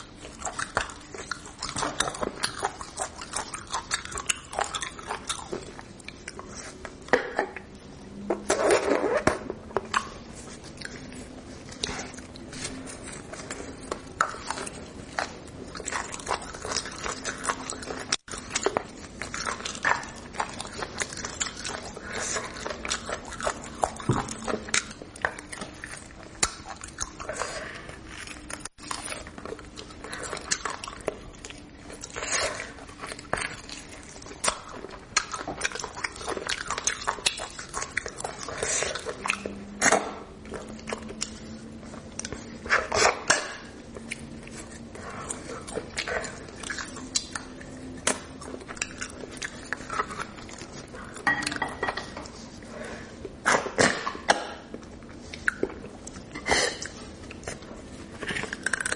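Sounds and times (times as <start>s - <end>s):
chewing bone marrow: 0.0s - 58.9s.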